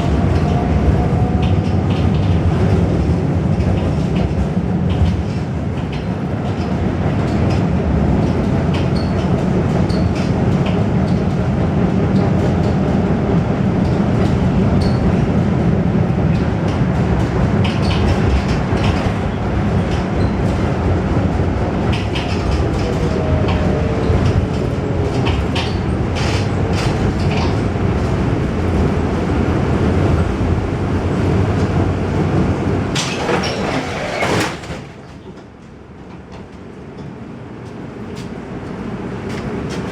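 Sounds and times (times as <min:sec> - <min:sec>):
tram rattling: 0:00.0 - 0:39.9
tram rumbling: 0:00.0 - 0:39.9.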